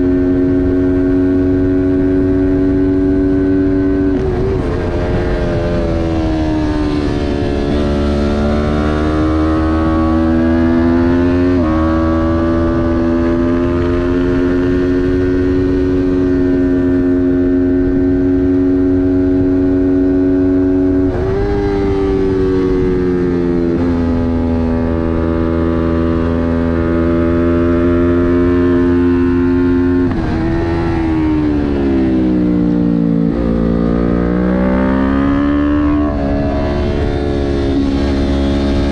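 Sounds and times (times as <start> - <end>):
motorcycle engine revving high: 0.0 - 38.9.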